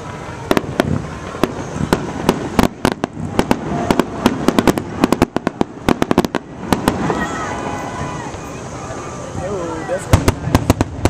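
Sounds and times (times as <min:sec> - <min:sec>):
fireworks bangs and cracks: 0:00.0 - 0:11.0
fireworks rumble: 0:00.0 - 0:11.0.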